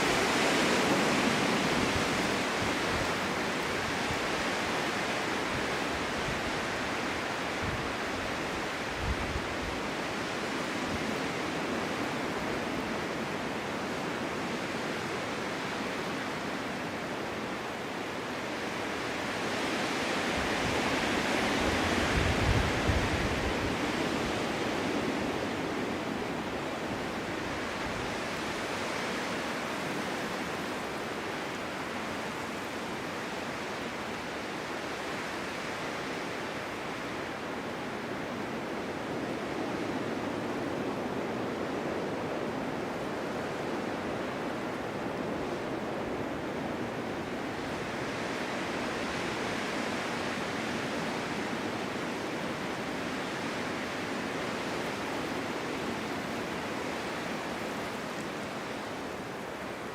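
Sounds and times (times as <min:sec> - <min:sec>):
strong wind blowing in gusts: 0:00.0 - 0:59.9.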